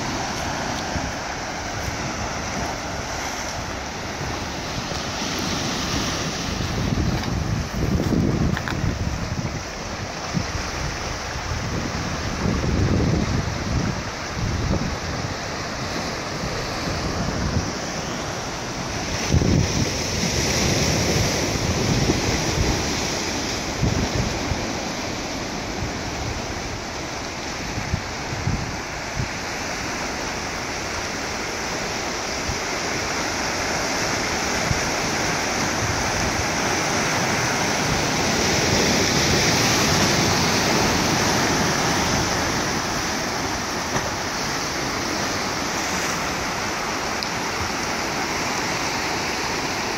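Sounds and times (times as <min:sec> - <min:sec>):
wind buffeting microphone: 0:00.0 - 0:48.8
surf washing over rocks: 0:00.0 - 0:49.9.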